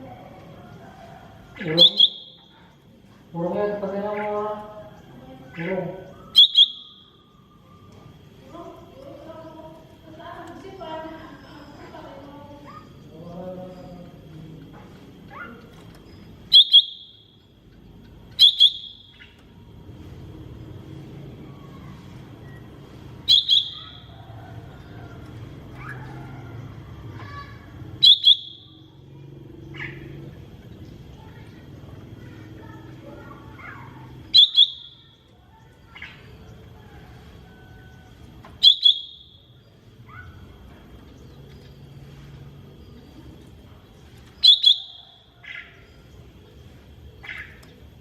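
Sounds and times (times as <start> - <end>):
low background noise: 0.0 - 48.0.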